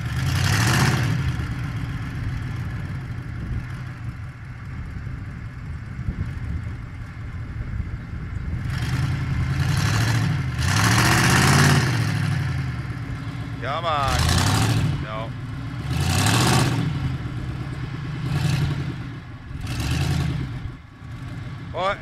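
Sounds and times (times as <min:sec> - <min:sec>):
truck engine revving hard: 0:00.0 - 0:04.2, 0:08.5 - 0:22.0.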